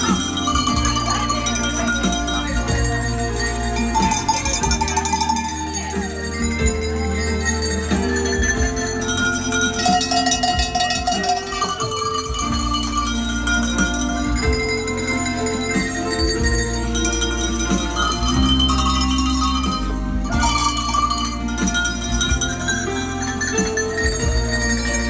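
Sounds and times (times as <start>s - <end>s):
cowbells playing a tune: 0.0s - 25.0s
sustained low notes: 0.0s - 25.0s.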